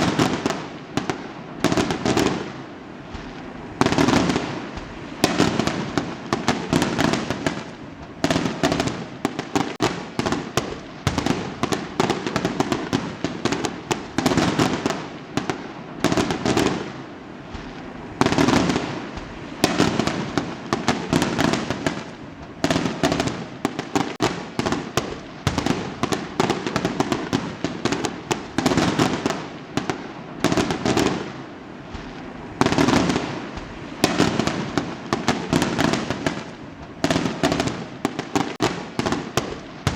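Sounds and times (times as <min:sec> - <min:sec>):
fireworks bangs with crackles: 0:00.0 - 0:39.9.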